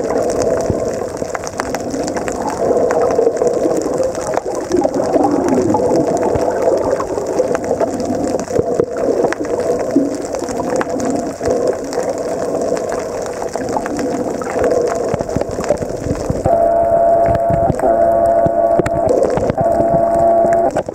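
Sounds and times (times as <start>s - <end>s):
sharp underwater clicks: 0.0s - 16.5s, 17.2s - 20.9s
underwater rush of water: 0.0s - 20.9s.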